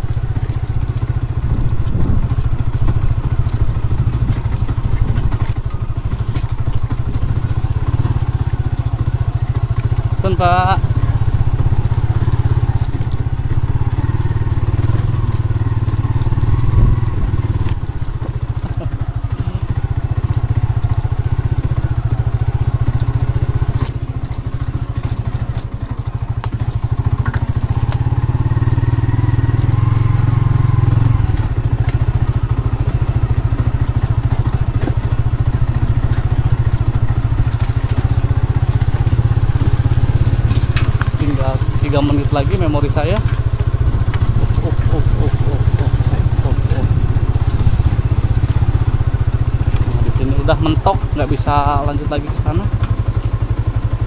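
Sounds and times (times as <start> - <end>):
bike clicks and rattles: 0.0 - 54.0
motorcycle engine running: 0.0 - 54.0.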